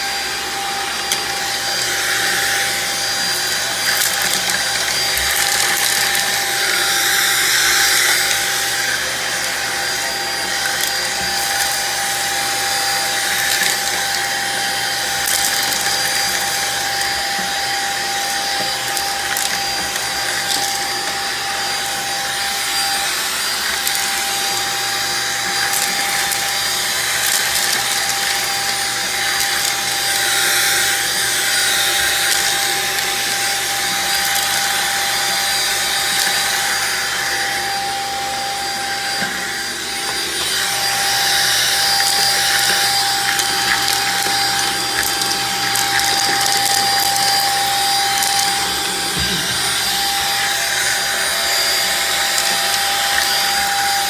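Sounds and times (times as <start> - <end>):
vacuum cleaner running: 0.0 - 54.0
debris clicking in vacuum: 0.7 - 37.8, 39.2 - 54.0.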